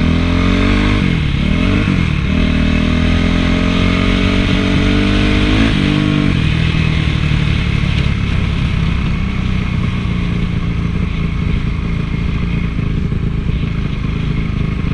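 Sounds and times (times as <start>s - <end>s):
motocross bike engine: 0.0s - 14.9s.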